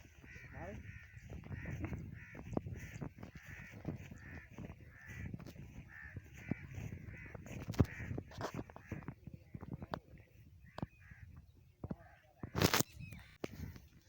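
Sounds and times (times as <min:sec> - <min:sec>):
crows cawing: 0:00.0 - 0:09.2, 0:10.6 - 0:14.0.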